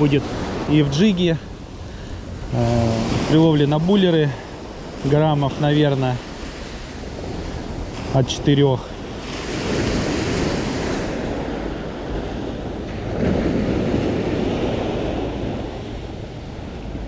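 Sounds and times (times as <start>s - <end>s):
sea surf washing ashore: 0.0s - 17.0s
wind buffeting microphone: 0.0s - 17.0s.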